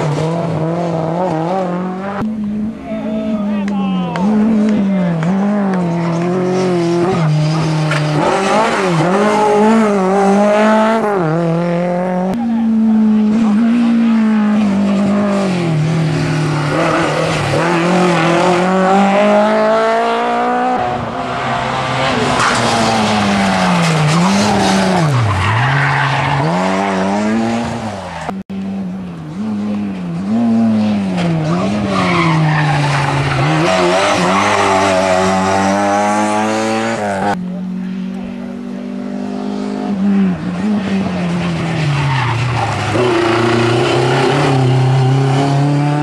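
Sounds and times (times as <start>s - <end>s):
rally car engines revving: 0.0s - 46.0s
tyres skidding: 0.0s - 46.0s.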